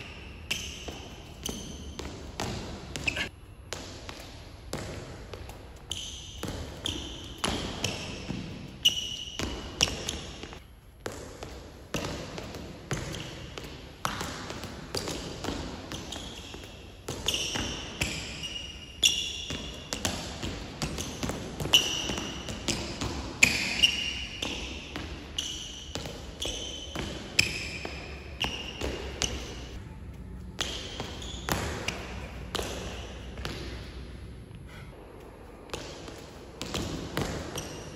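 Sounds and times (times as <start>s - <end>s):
sneakers squeaking on court floor: 0.0s - 29.8s, 30.4s - 34.1s, 35.7s - 37.9s.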